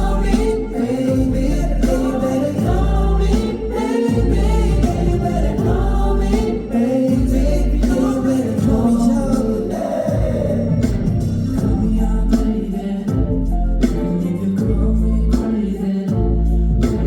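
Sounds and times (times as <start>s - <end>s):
pop song with male singing: 0.0s - 17.0s.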